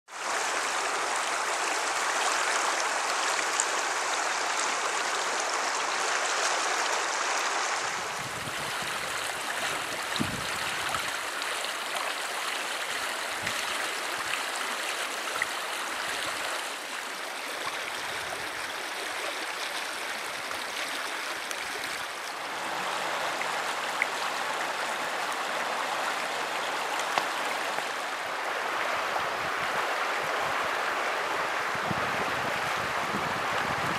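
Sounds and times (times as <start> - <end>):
river rushing over shallow bed: 0.1 - 33.9.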